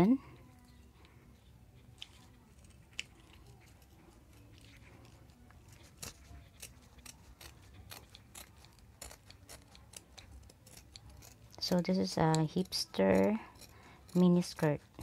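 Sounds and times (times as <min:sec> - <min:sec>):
scissors snipping cloth: 0:02.0 - 0:15.0.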